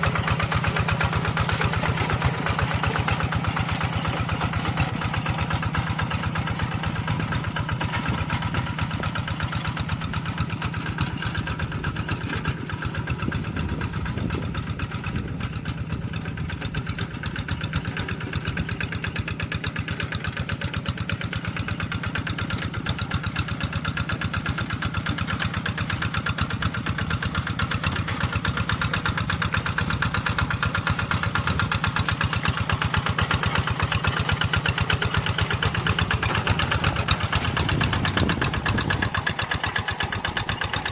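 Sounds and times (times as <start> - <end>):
tractor engine chugging: 0.0 - 40.9.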